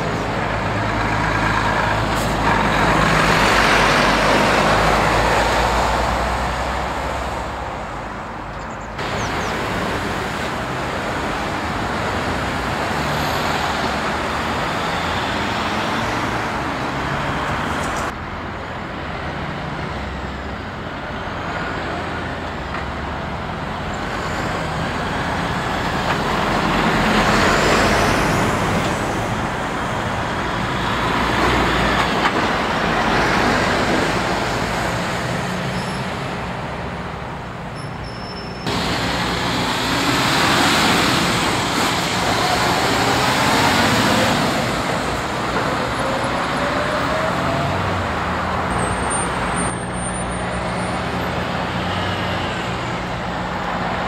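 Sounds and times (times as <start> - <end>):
diesel lorries passing: 0.0 - 54.0
tyre and traffic noise: 0.0 - 54.0.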